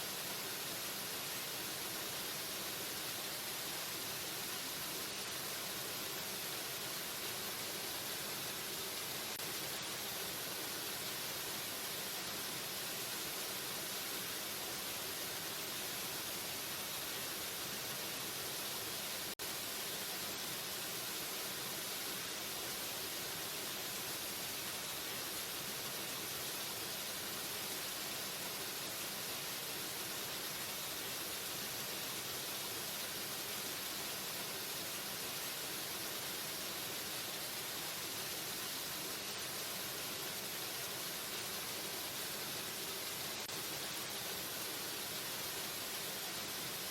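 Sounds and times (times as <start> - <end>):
waterfall rushing water: 0.0 - 46.9.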